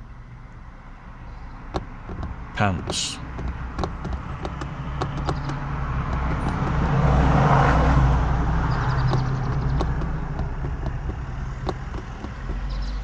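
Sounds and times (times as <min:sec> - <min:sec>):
road vehicle passing: 0:00.0 - 0:13.0.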